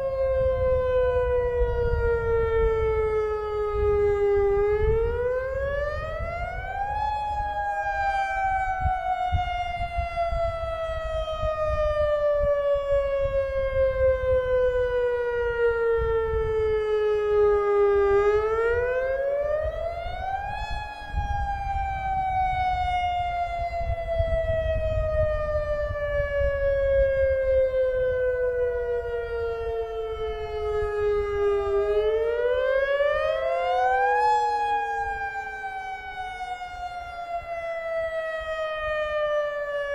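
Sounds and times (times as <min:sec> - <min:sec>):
fainter second siren: 0:00.0 - 0:39.9
warning siren wailing: 0:00.0 - 0:39.9.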